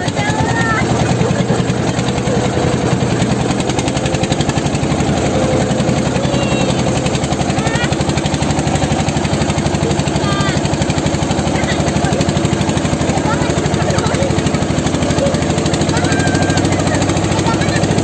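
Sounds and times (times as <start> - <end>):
engine running with rapid pulse: 0.0 - 18.0.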